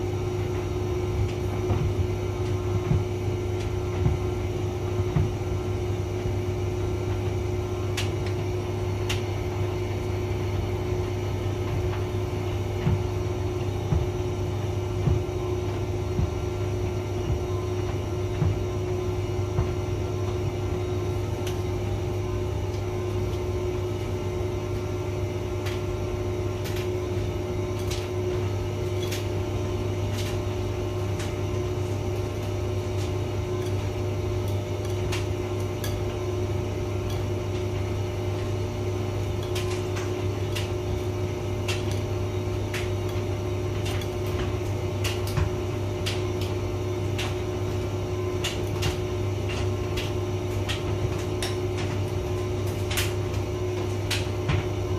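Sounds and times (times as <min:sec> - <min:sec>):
tumble dryer motor hum: 0:00.0 - 0:54.9.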